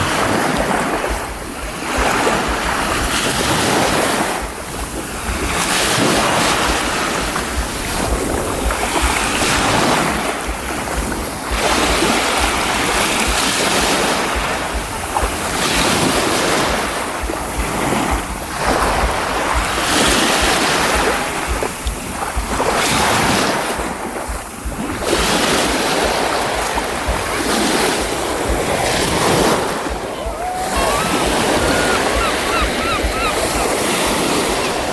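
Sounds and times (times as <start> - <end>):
waves breaking on shore: 0.0 - 34.9
wind buffeting microphone: 0.0 - 34.9.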